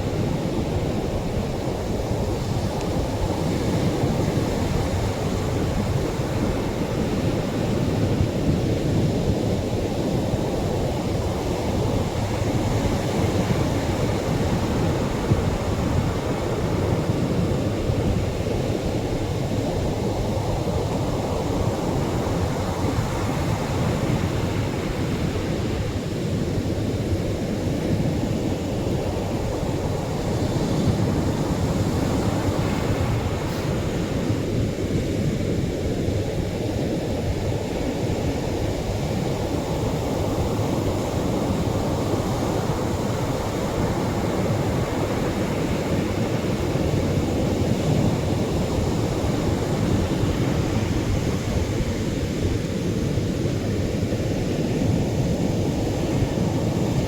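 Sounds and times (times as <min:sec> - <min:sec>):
surf waves rumbling: 0:00.0 - 0:57.0.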